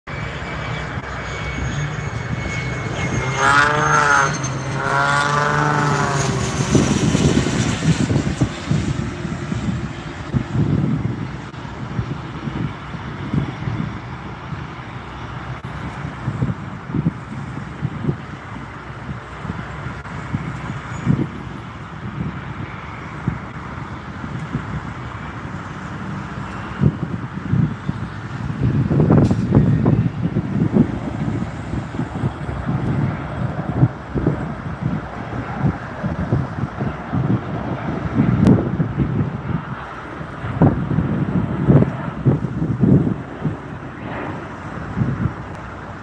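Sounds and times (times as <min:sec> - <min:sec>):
jet passing low overhead: 0:00.1 - 0:46.0
wind buffeting microphone: 0:00.1 - 0:46.0.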